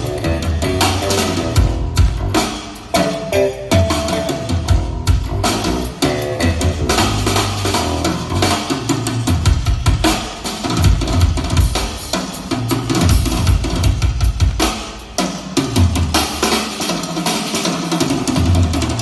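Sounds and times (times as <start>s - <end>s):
loud drum-heavy music: 0.0s - 19.0s.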